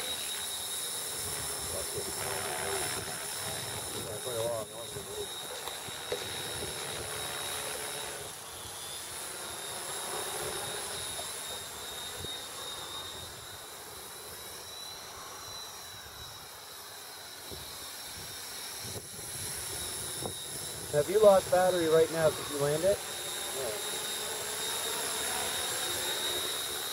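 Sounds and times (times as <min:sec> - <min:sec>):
model aircraft motor whine: 0:00.0 - 0:26.9.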